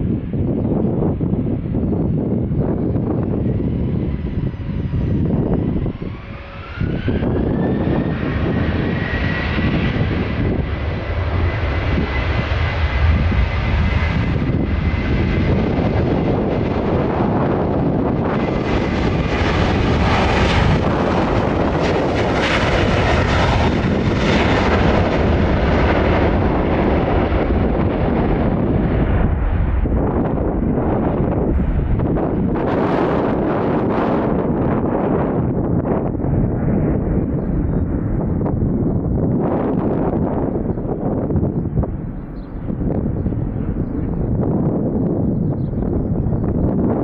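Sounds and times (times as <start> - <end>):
jet engines spooling up: 3.0 - 43.0.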